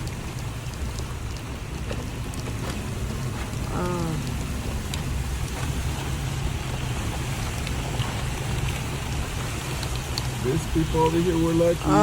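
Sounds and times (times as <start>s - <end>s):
low rumble: 0.0s - 11.1s
raindrop ticks: 0.0s - 12.0s.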